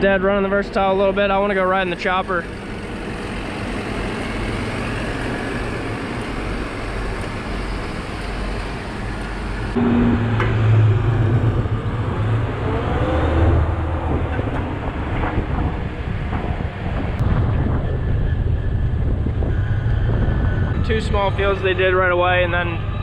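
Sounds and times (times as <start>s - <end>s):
deep engine drone: 0.0s - 23.0s
diesel machinery running: 0.0s - 23.0s.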